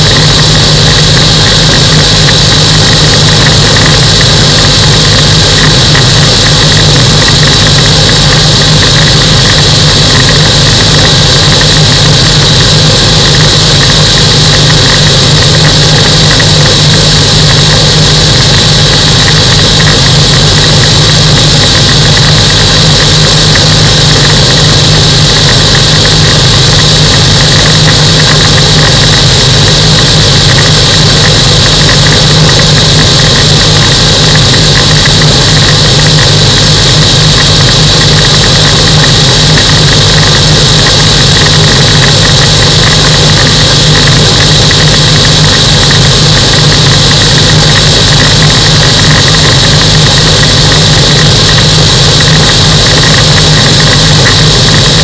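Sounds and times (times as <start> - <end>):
aircraft engine drone: 0.0 - 55.0
high hiss: 0.0 - 55.0.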